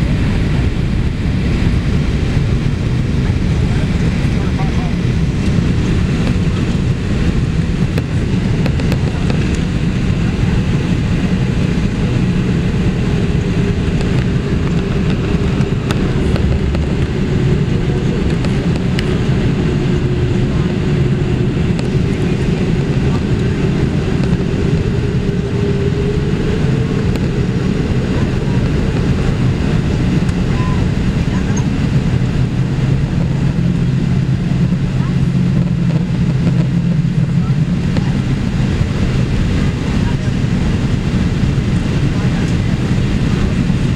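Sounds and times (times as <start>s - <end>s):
aircraft cabin engine noise: 0.0s - 43.9s.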